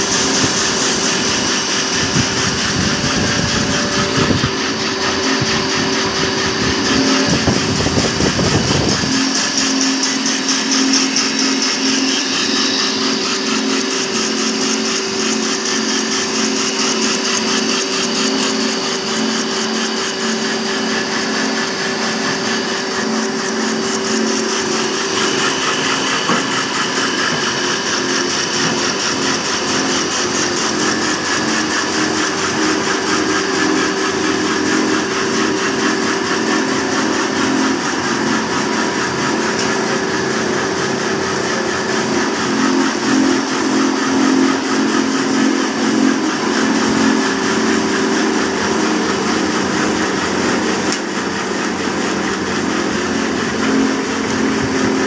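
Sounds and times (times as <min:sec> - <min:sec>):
machine belts and rollers humming: 0:00.0 - 0:55.0.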